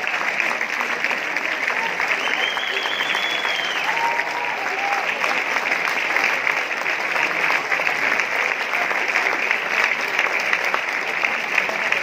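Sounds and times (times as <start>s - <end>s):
large audience applauding: 0.0s - 12.0s.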